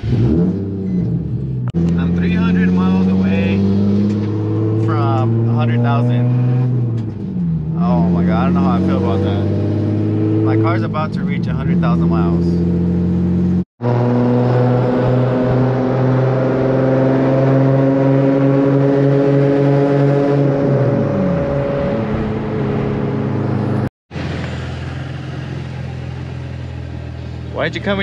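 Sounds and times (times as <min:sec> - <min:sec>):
car engine revving: 0:00.0 - 0:28.0
steady engine drone: 0:00.0 - 0:28.0.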